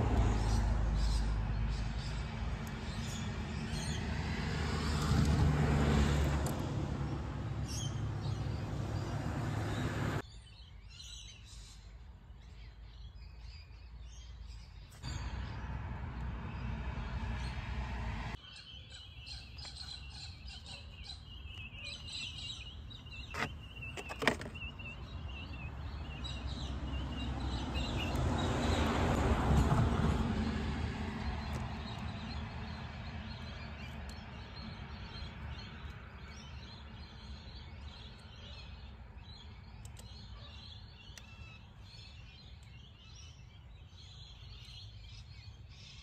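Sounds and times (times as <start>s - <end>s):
birds chirping and singing: 0.0s - 29.2s, 30.1s - 46.0s.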